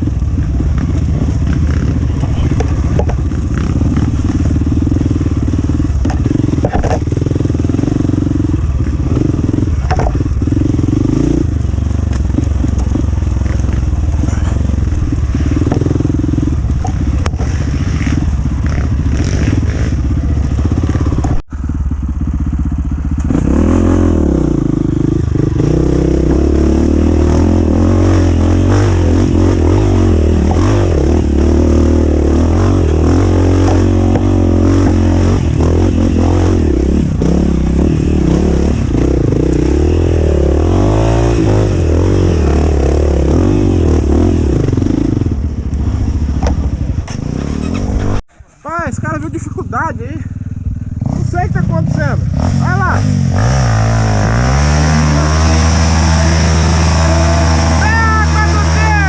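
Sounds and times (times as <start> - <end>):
dirt bike engine revving: 0.0 - 48.2, 48.8 - 59.0.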